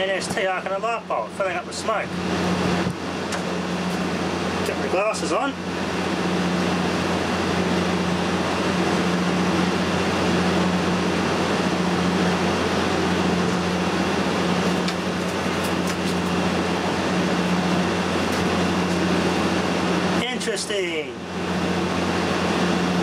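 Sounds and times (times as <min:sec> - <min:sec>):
low mains hum: 0:00.0 - 0:23.0.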